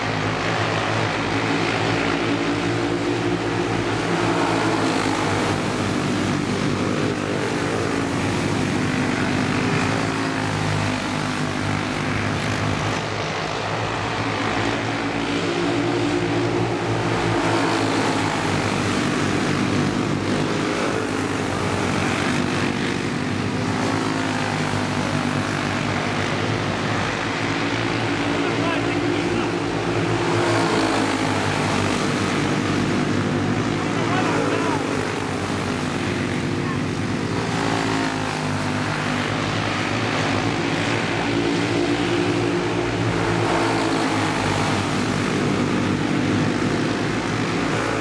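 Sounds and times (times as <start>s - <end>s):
racing kart engines buzzing: 0.0s - 48.0s.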